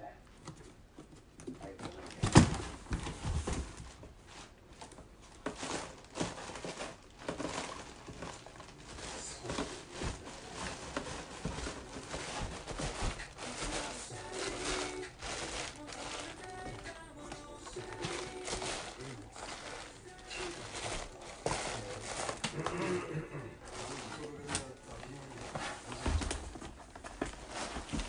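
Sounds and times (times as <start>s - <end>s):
cardboard scraping and rustling: 1.9s - 22.9s, 23.6s - 28.0s.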